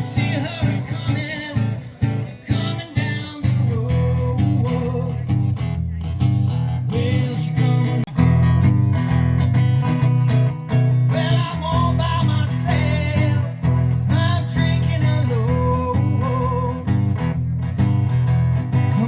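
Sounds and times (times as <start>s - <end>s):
man singing: 0.0s - 8.5s, 10.7s - 17.4s, 18.6s - 19.0s
acoustic guitar strumming: 0.0s - 19.0s.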